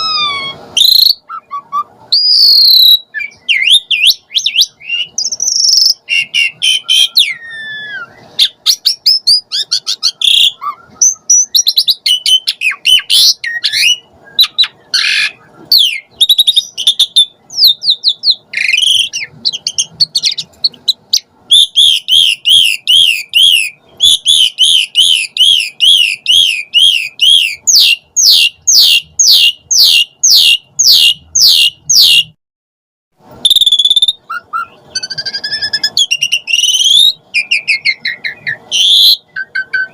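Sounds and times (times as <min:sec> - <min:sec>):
starling singing: 0:00.0 - 0:32.4, 0:33.4 - 0:39.9.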